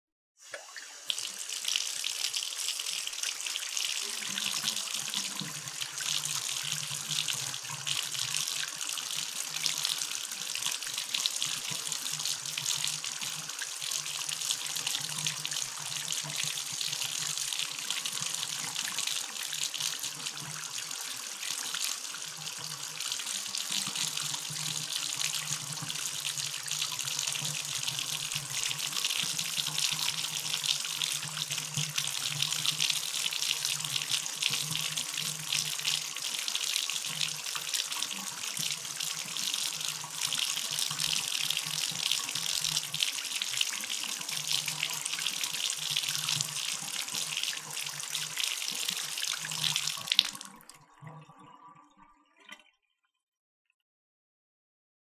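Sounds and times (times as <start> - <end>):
faucet water pouring: 0.4 - 52.7.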